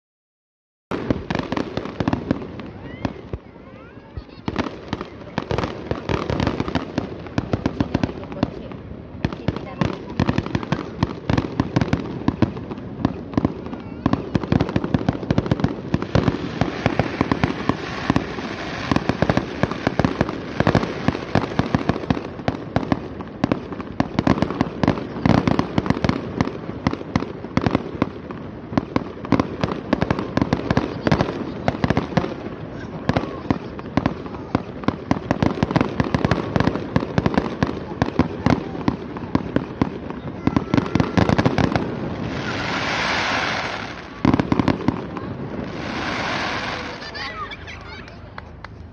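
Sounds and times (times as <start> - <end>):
fireworks bangs and crackling: 0.9 - 48.9.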